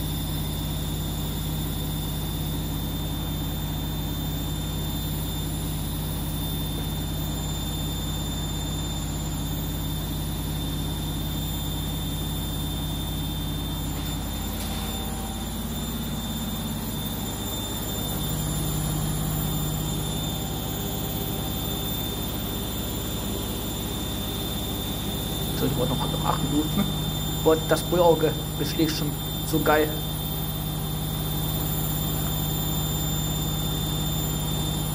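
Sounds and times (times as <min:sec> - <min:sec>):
washing machine spinning: 0:00.0 - 0:34.9.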